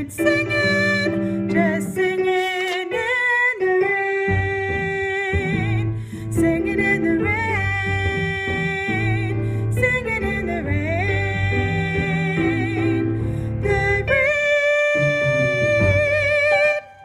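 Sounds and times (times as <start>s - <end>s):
instrumental accompaniment: 0.0s - 17.0s
soprano singing with vibrato: 0.0s - 17.0s.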